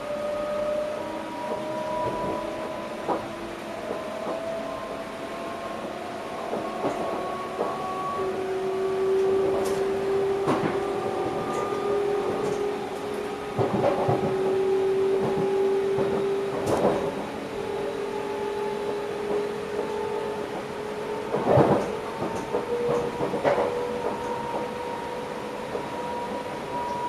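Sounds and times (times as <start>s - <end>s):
train motor whine: 0.0s - 27.0s.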